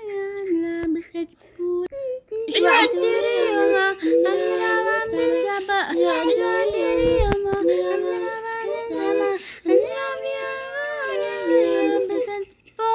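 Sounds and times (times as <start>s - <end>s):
child singing: 0.0s - 12.9s.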